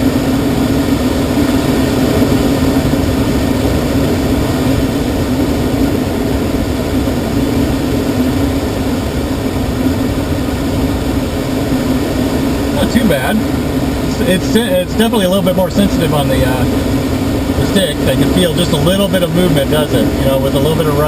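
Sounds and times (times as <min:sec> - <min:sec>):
air rushing around cockpit: 0:00.0 - 0:21.0
steady low hum: 0:00.0 - 0:21.0.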